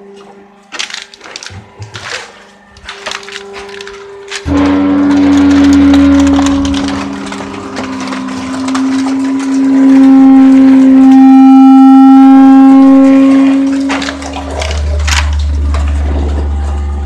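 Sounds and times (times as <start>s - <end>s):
hydraulic pump whining: 2.8s - 17.0s.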